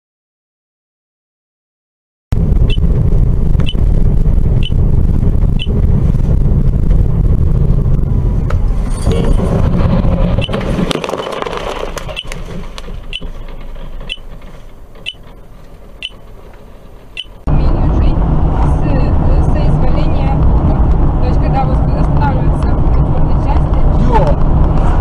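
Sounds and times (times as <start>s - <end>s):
road and engine rumble in car: 2.3s - 25.0s.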